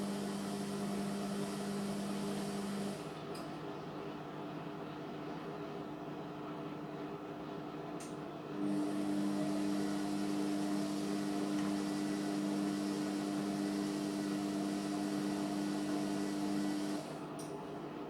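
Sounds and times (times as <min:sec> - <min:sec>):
washing machine electric hum: 0:00.0 - 0:18.0.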